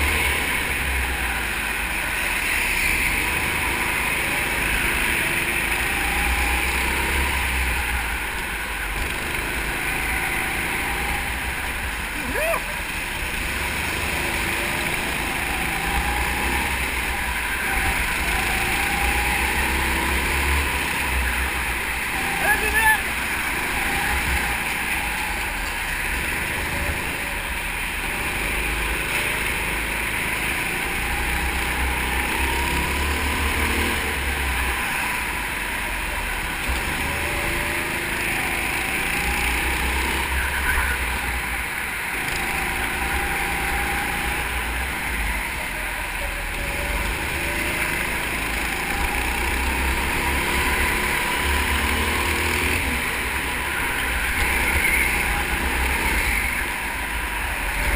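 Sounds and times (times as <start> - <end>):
go-kart motor revving: 0.0 - 57.9.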